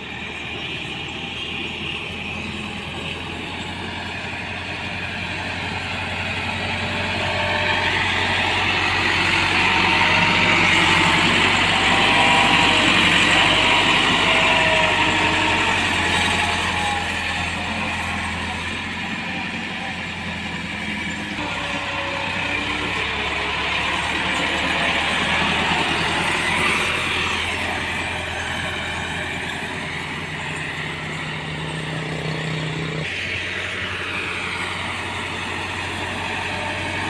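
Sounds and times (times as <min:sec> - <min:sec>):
tractor diesel engine running: 0:00.0 - 0:37.0
high squeaks: 0:05.3 - 0:37.0.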